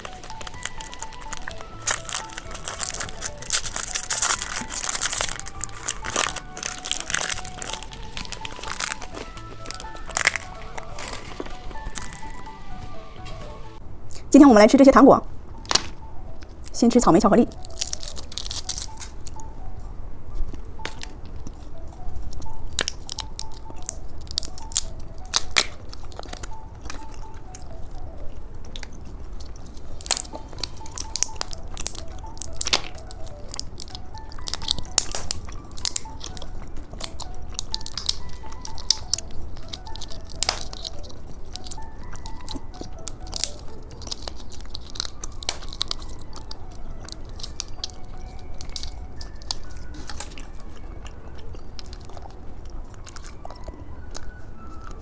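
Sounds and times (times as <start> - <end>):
crunching and chewing candy: 0.0 - 14.2, 15.5 - 55.0
soft background music: 0.0 - 55.0.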